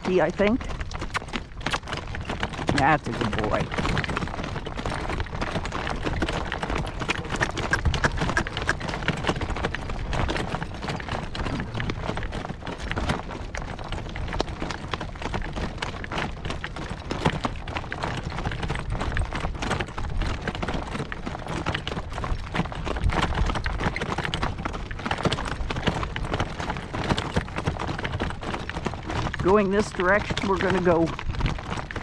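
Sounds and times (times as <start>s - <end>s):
horse hooves on rocky ground: 0.0s - 32.0s.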